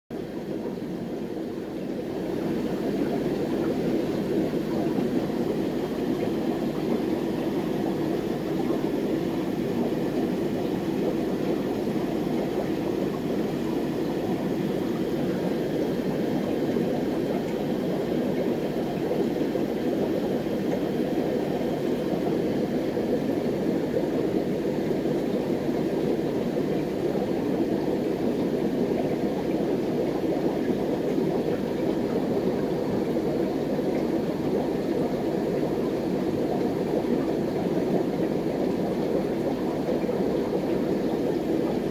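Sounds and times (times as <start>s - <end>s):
aquarium filter bubbling: 0.1s - 41.9s.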